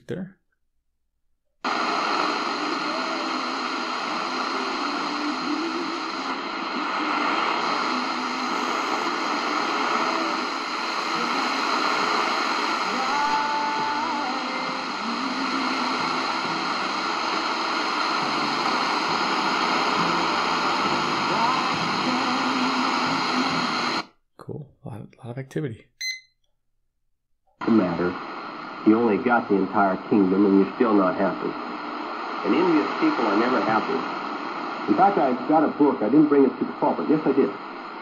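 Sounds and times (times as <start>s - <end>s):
weak radio music: 1.7s - 24.0s, 27.6s - 38.0s
static hiss: 1.7s - 24.1s, 27.6s - 38.0s.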